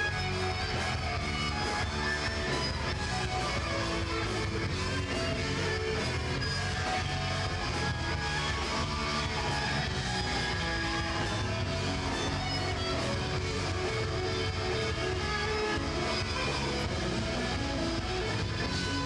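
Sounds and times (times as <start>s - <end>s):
electric guitar playing rock: 0.0s - 19.0s
steel drum band playing: 0.0s - 19.0s.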